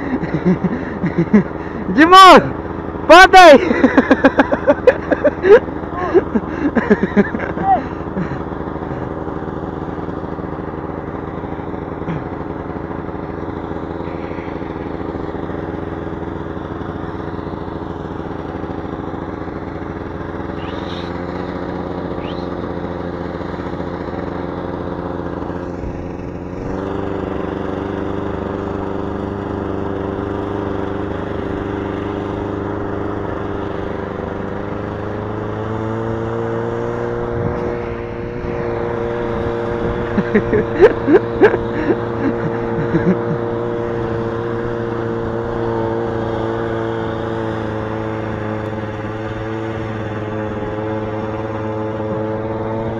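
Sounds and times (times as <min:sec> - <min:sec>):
small vehicle engine running: 0:00.0 - 0:52.9.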